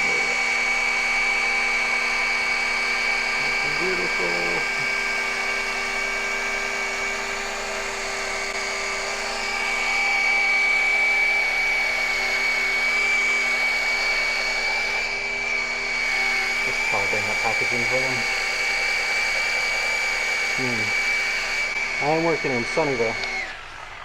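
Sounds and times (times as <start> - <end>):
electric polisher whining on glass: 0.0 - 24.0.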